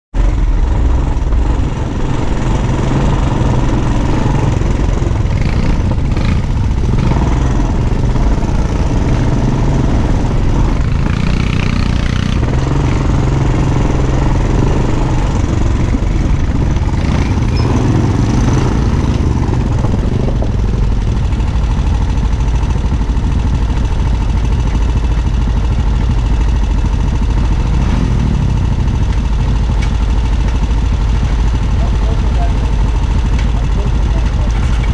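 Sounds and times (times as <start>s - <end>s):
atv engine revving: 0.2s - 34.9s.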